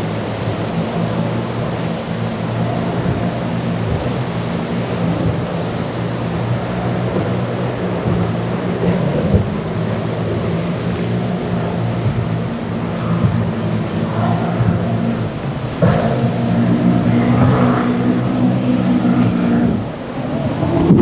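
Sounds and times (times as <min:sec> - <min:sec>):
powerboat engines droning: 0:00.0 - 0:21.0
waves and spray rushing: 0:00.0 - 0:21.0
wind: 0:00.0 - 0:21.0.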